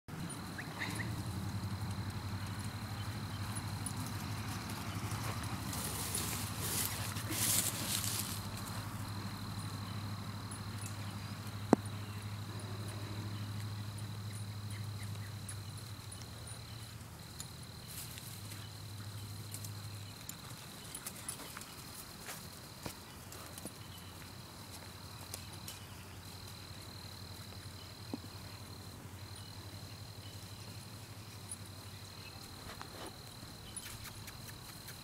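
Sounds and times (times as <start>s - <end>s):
high insect trill: 0.1s - 35.0s
horse hoofbeats on grass: 0.2s - 35.0s.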